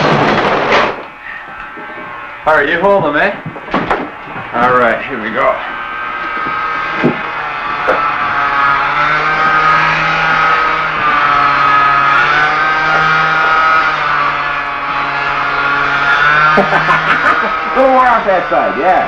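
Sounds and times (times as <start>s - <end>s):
electric hair clippers buzzing: 0.7s - 19.0s.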